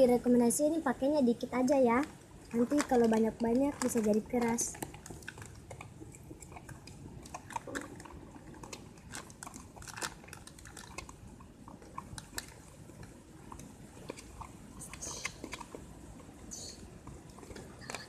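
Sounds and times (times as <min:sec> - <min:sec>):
slime squelching: 0:01.4 - 0:18.0.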